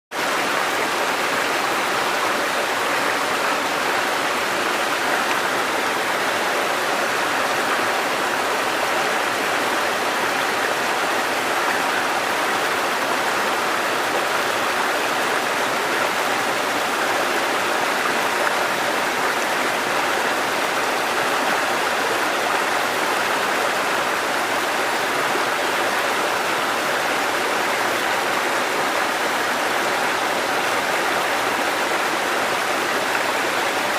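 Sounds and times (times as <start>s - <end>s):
river water flowing over rocks: 0.2s - 33.9s.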